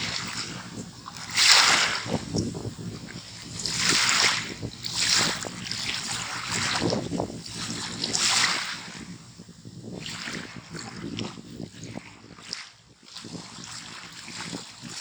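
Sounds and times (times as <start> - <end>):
small waves breaking on shore: 0.0 - 15.0
wind: 0.0 - 15.0.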